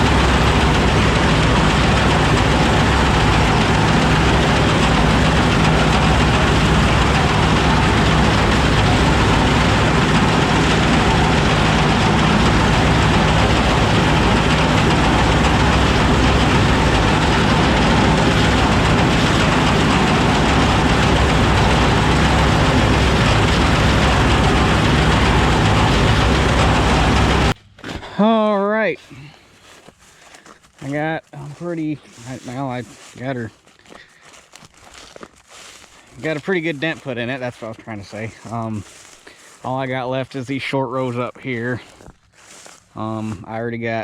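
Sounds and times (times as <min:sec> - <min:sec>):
combine harvester engine running: 0:00.0 - 0:44.0.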